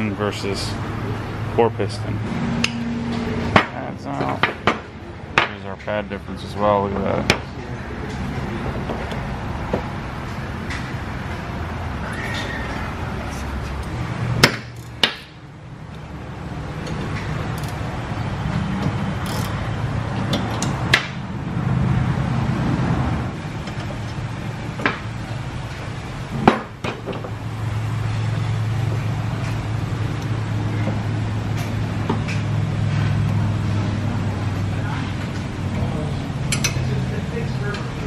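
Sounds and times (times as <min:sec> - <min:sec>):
low shop hum: 0:00.0 - 0:38.0.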